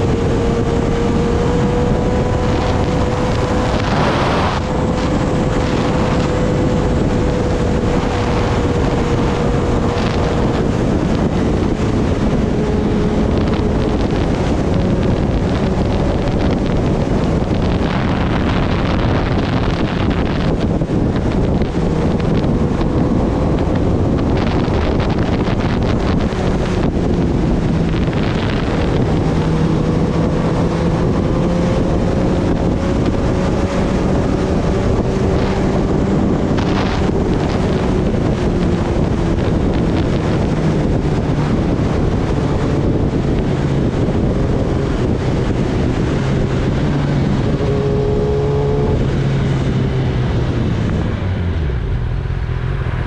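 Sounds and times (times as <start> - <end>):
motorcycle engine cruising: 0.0 - 53.0
wind noise on microphone: 0.0 - 53.0.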